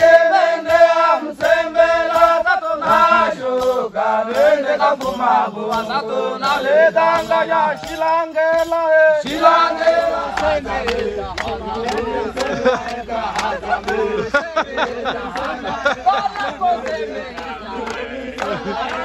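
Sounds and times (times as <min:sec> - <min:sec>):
group singing and chanting: 0:00.0 - 0:19.0.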